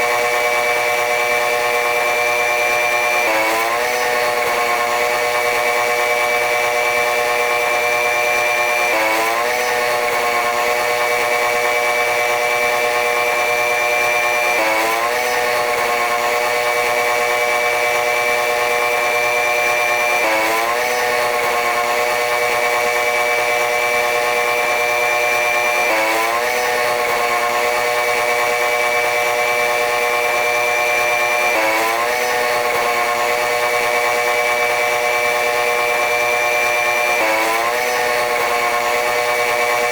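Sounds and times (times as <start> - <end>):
sped up train buzzing whine: 0.0 - 39.9.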